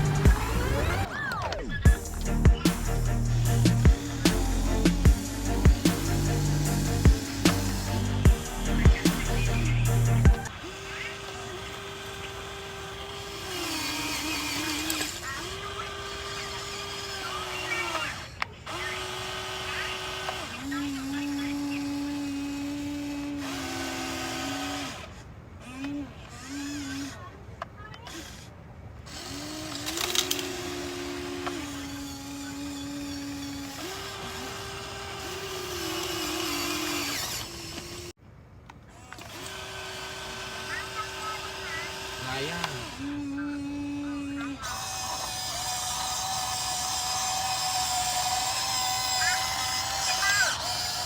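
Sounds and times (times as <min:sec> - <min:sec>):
toy excavator motors whining: 0:00.0 - 0:51.0.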